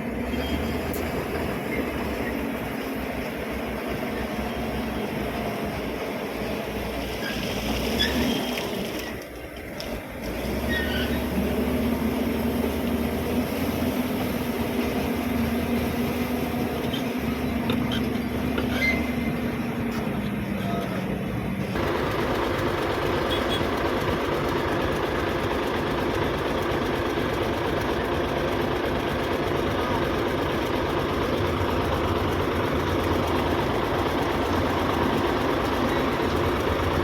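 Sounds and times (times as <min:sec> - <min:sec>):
bulldozer diesel engine under load: 0:00.0 - 0:37.0.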